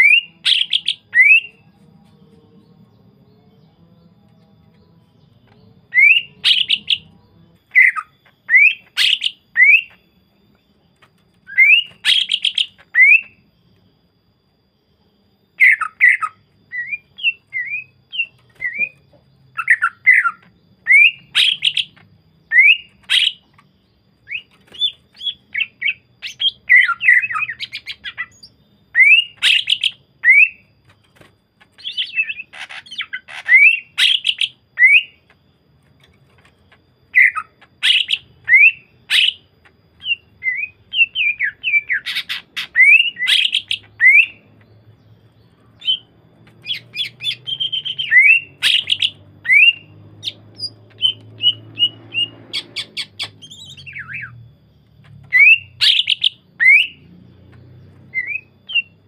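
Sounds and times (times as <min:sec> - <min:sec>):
bird whistling song: 0:00.0 - 0:02.2, 0:04.4 - 0:13.9, 0:15.4 - 0:59.0.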